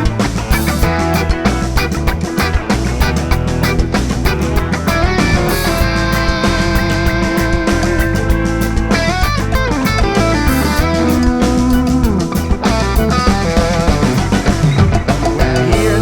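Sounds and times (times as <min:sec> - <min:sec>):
bass guitar: 0:00.0 - 0:16.0
drum kit: 0:00.0 - 0:16.0
electric guitar lead: 0:00.0 - 0:16.0.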